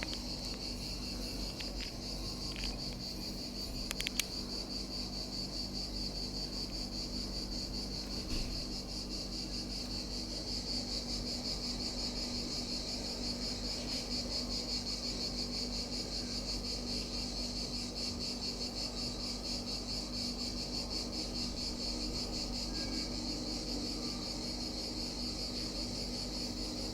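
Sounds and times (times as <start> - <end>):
insects chirping: 0.0 - 26.9.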